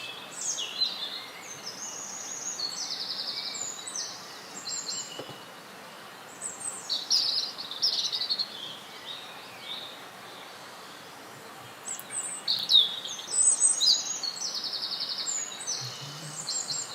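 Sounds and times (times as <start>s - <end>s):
songbirds chirping and trilling: 0.0s - 16.9s
steady hiss: 0.0s - 16.9s.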